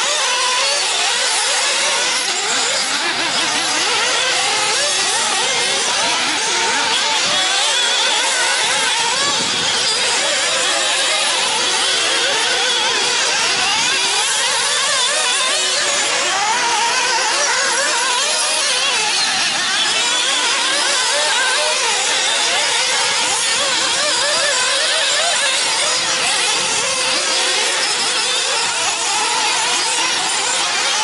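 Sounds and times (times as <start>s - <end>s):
rc buggy engines whining: 0.0s - 31.0s.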